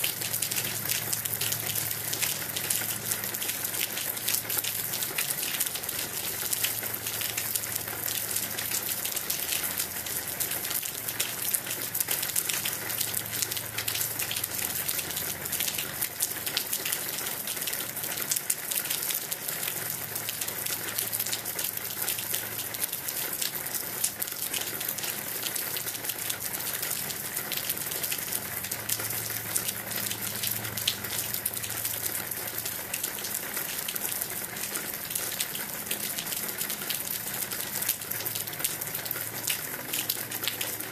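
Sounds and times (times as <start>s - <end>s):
raindrops ticking close by: 0.0s - 40.9s
steady rain falling: 0.0s - 40.9s.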